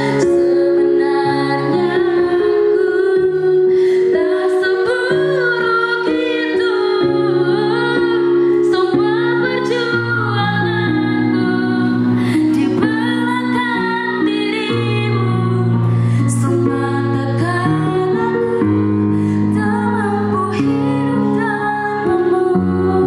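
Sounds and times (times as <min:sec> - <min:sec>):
woman singing: 0:00.0 - 0:23.0.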